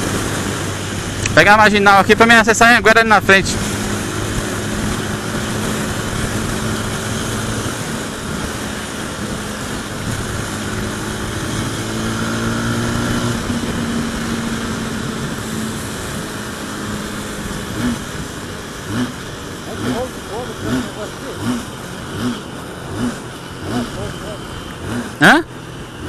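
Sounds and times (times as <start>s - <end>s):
motorcycle engine cruising: 0.0s - 26.0s
road noise: 0.0s - 26.0s.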